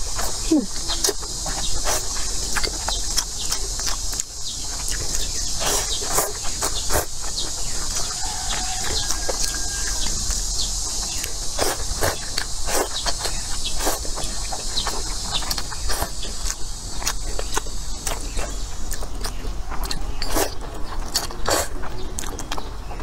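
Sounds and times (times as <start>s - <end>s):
steady high hiss: 0.0s - 19.6s
slurping and chewing noodles: 0.0s - 23.0s.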